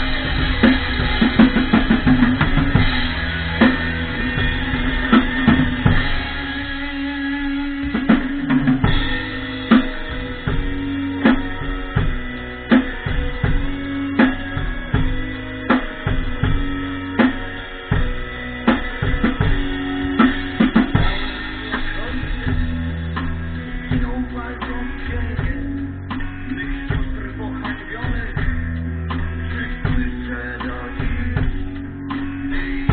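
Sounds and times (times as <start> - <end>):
rock music with drums and guitar: 0.0 - 32.9.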